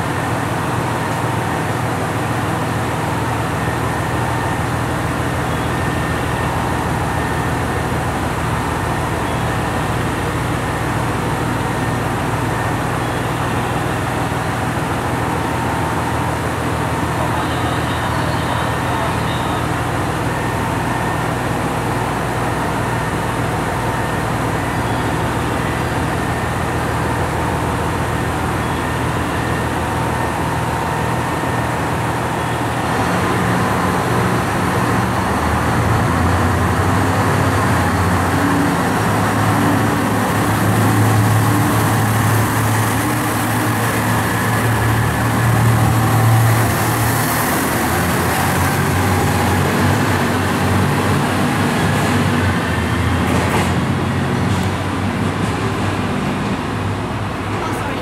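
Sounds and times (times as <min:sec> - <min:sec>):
diesel train engines revving: 0:00.0 - 0:58.0.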